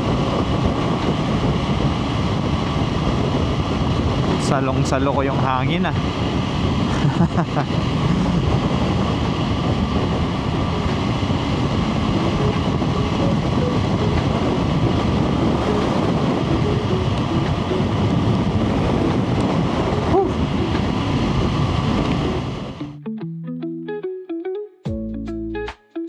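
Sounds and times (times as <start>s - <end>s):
motorcycle engine riding: 0.0s - 23.0s
wind rush on microphone: 0.0s - 23.0s.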